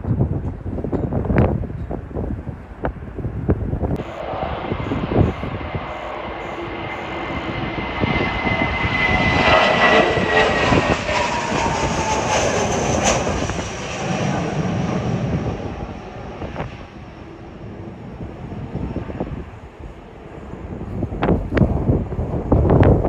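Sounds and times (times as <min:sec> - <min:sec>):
jet airliner engines at takeoff: 0:00.0 - 0:23.0.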